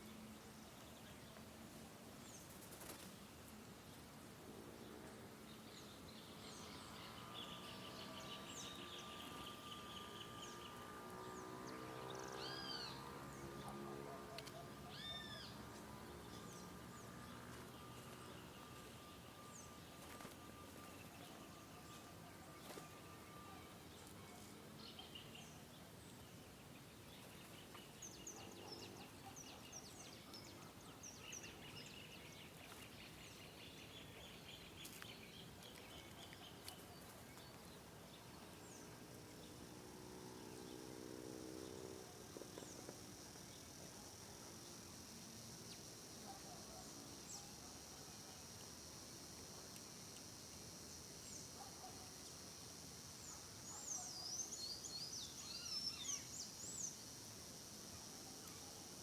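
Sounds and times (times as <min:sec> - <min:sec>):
steady background hiss: 0:00.0 - 0:59.0
wild birds chirping and trilling: 0:00.0 - 0:59.0.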